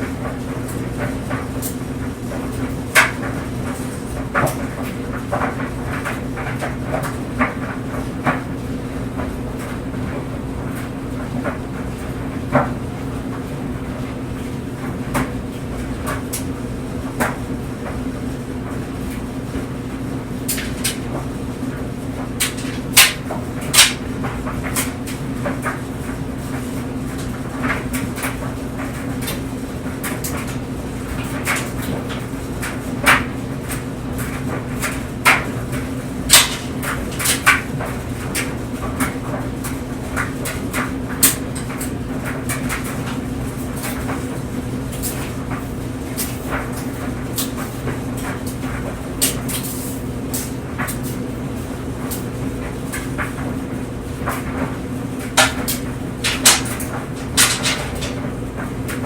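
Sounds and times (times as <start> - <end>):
clothes dryer hum: 0.0 - 59.0.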